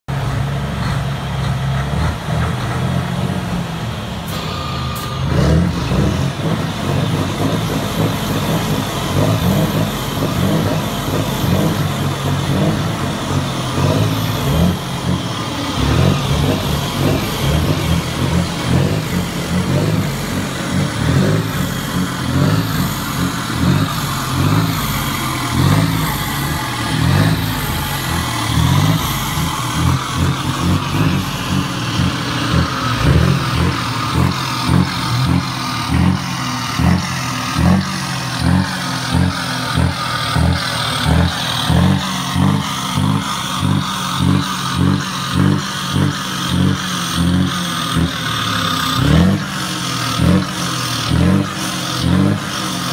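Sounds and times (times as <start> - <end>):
truck diesel engine revving: 0.0 - 52.9.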